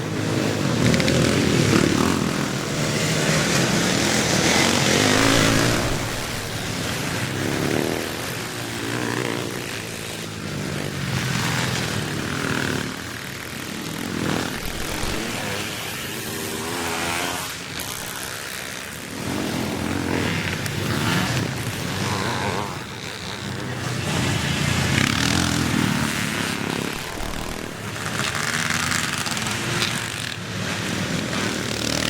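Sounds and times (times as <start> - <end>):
motocross bikes racing past: 0.0 - 32.0.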